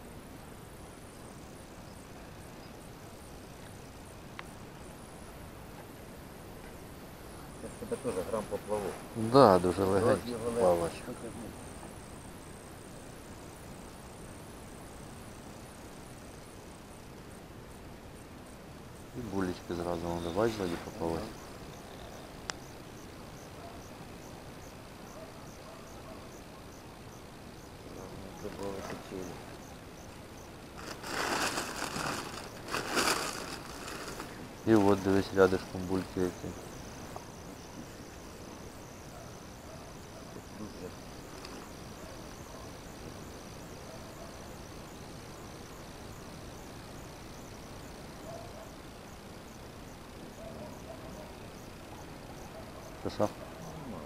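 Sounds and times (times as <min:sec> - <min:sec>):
steady background hush: 0:00.0 - 0:54.0.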